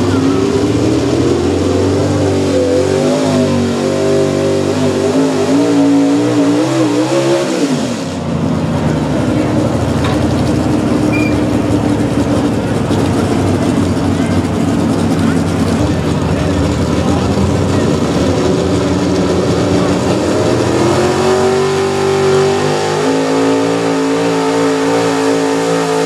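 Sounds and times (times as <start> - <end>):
truck engine at full throttle: 0.0 - 26.0.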